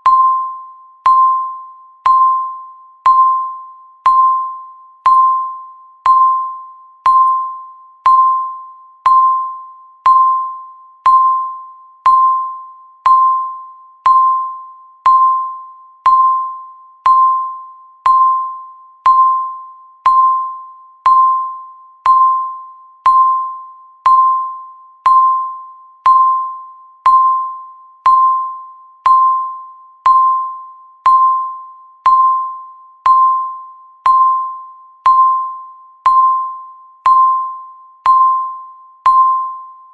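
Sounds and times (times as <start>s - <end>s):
timer tick ping: 0.0s - 39.9s.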